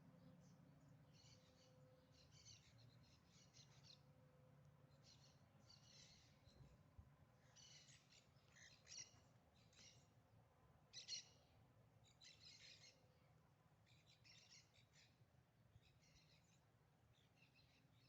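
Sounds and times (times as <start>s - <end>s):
faint bird chirping: 0.0s - 10.2s, 10.9s - 18.0s
low background hum: 0.0s - 18.0s.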